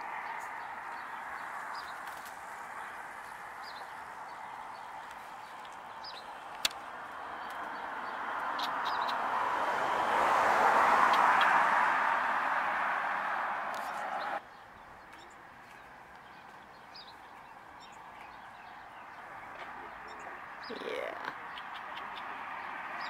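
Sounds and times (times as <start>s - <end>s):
outdoor background noise: 0.0s - 23.0s
vehicle passing: 0.0s - 23.0s.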